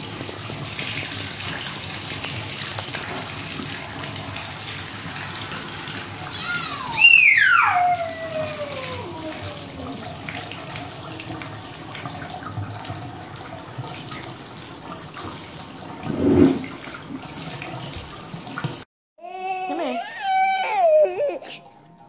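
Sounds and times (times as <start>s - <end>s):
water running from faucet: 0.0s - 18.9s.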